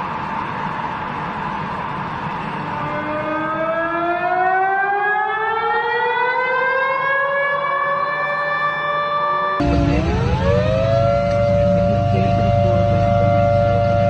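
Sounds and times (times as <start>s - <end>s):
civil defense siren winding up: 2.1s - 14.0s.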